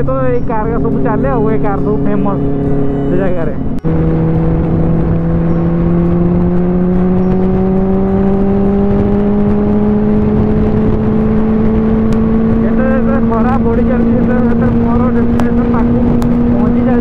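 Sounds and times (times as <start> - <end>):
motorcycle engine pulling: 0.0 - 17.0.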